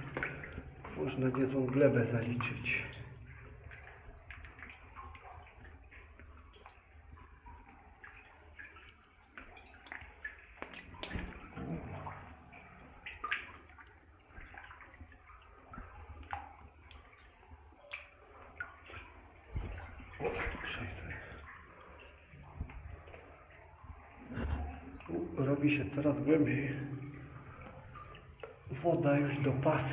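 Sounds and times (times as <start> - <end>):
water drips: 0.0 - 29.9
water sloshing around legs: 0.0 - 29.9.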